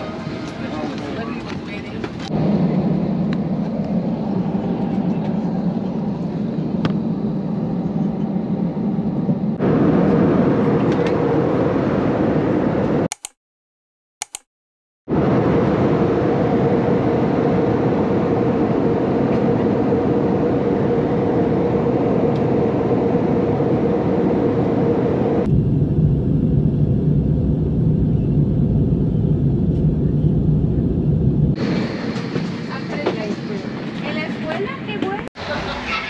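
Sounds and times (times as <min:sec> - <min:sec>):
jet airliner cabin noise: 0:00.0 - 0:13.1, 0:15.1 - 0:36.0.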